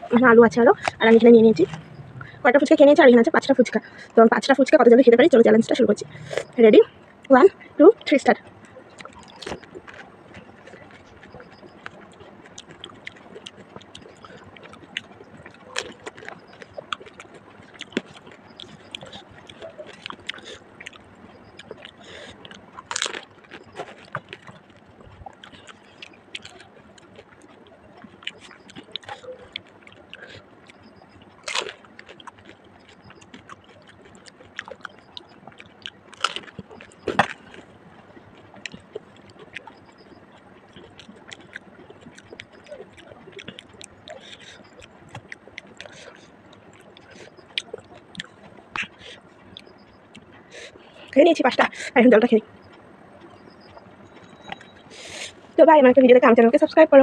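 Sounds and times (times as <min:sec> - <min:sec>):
chewing and crunching crisp shells: 0:00.1 - 0:55.7.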